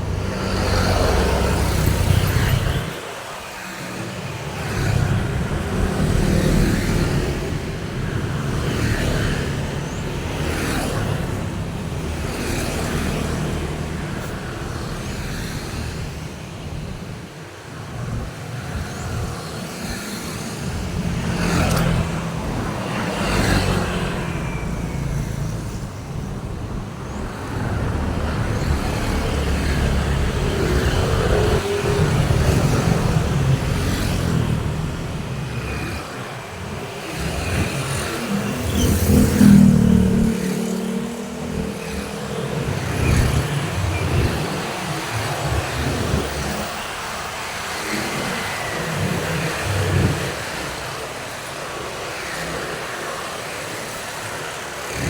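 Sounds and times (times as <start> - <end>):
road traffic rumble: 0.0 - 55.0
vehicles passing: 0.0 - 55.0.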